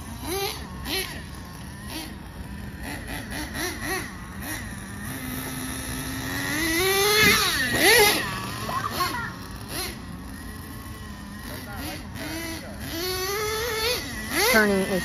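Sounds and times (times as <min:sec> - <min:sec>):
model engine revving: 0:00.0 - 0:15.0.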